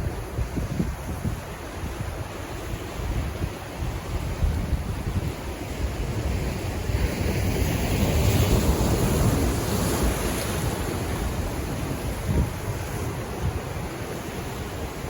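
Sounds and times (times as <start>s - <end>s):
ocean wave: 0.0s - 15.0s
wind on microphone: 0.0s - 15.0s.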